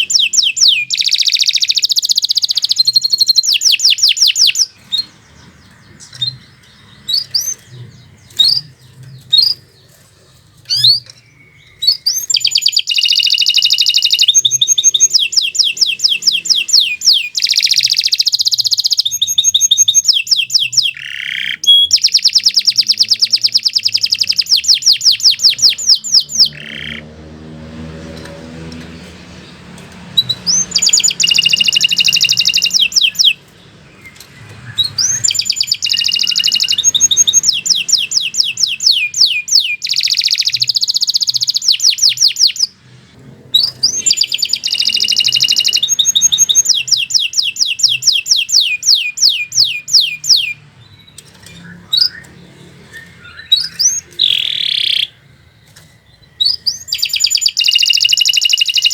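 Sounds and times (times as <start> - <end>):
canary chirps and trills: 0.0 - 58.9.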